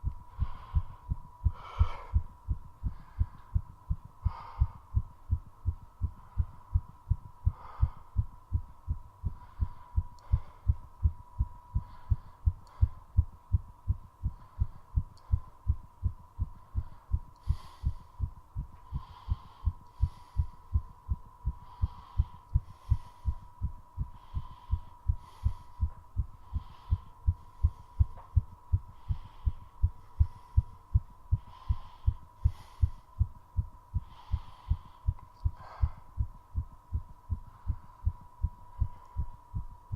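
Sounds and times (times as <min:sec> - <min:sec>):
faint steady hum: 0:00.0 - 0:39.9
fast heartbeat: 0:00.0 - 0:39.9
heavy breathing: 0:00.0 - 0:39.9.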